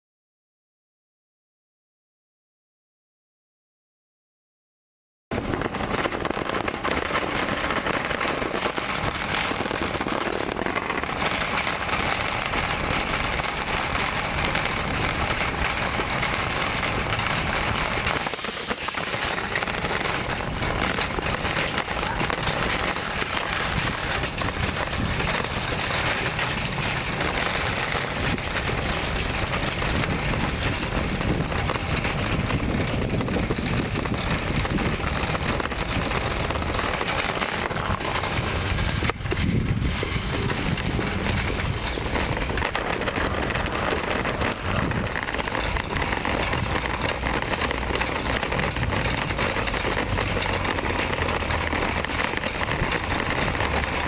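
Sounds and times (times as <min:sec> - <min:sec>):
shopping cart rattling on asphalt: 0:05.3 - 0:54.0.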